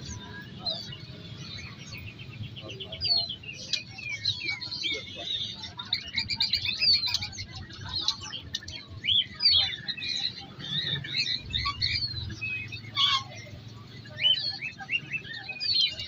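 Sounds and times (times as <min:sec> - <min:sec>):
songbirds chirping and calling: 0:00.0 - 0:16.0.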